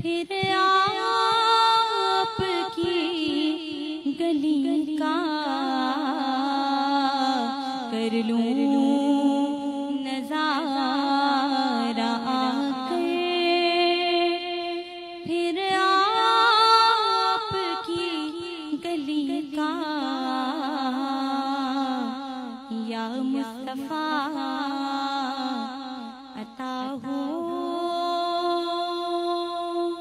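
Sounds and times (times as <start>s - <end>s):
woman singing devotional song: 0.0s - 30.0s.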